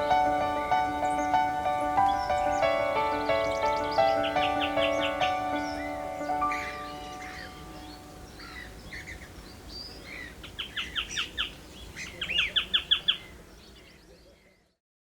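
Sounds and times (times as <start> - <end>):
birds chirping: 0.0 - 14.8
songbird singing repeated notes: 0.0 - 14.8.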